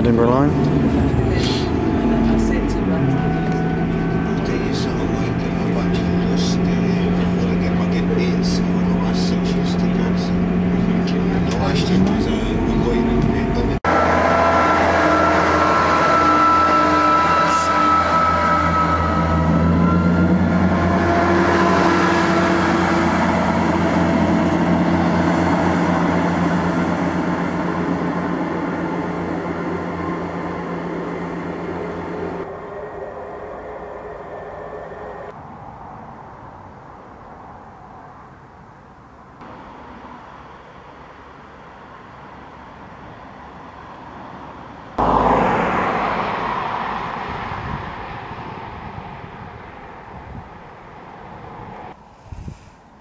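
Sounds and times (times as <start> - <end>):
train diesel engine drone: 0.0 - 53.0.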